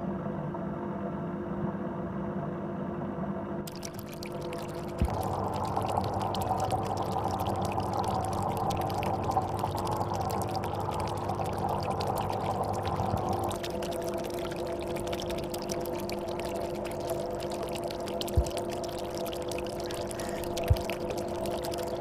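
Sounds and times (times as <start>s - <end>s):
aquarium water bubbling: 3.7s - 22.0s
pump motor hum: 3.7s - 22.0s.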